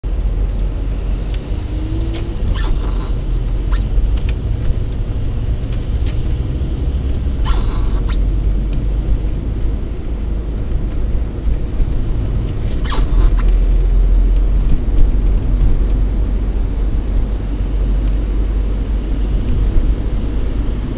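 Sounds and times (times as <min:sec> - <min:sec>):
car engine rumble: 0:00.0 - 0:20.9
tyres on slushy road: 0:00.1 - 0:20.9.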